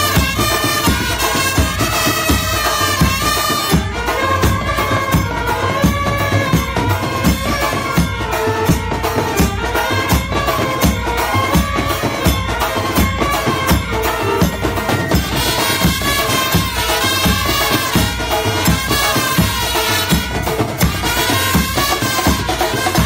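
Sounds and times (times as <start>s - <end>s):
background music with drum beat: 0.0s - 23.0s.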